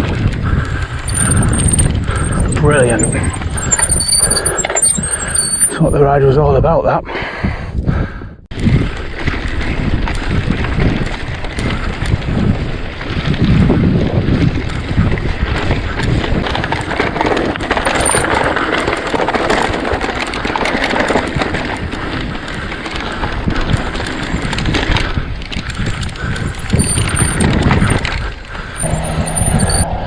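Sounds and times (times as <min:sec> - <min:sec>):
bike rattling and clicking: 0:00.0 - 0:06.0, 0:08.6 - 0:29.9
bike tyres on rough ground: 0:00.0 - 0:06.0, 0:08.6 - 0:29.9
wind buffeting microphone: 0:00.0 - 0:30.0.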